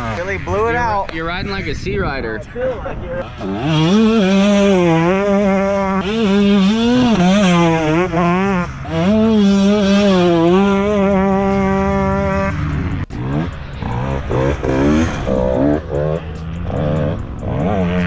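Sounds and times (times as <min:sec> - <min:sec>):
motocross bike engine revving: 0:00.0 - 0:02.2, 0:03.2 - 0:18.0.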